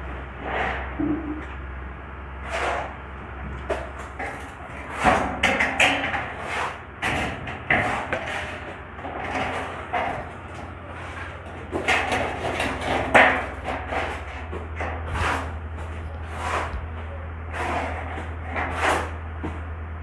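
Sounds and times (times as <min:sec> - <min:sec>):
construction knocks and bangs: 0:00.0 - 0:01.7, 0:02.4 - 0:20.0
steady low hum: 0:00.0 - 0:20.0.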